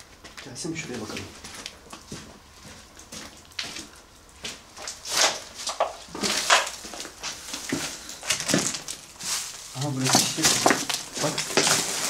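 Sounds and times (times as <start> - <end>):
footsteps crunching over rubble: 0.0 - 12.0.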